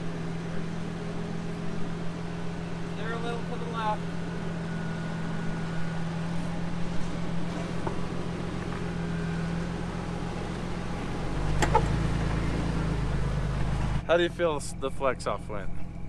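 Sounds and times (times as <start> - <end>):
deep low hum: 0.0 - 16.0
engine running at low revs: 0.0 - 16.0.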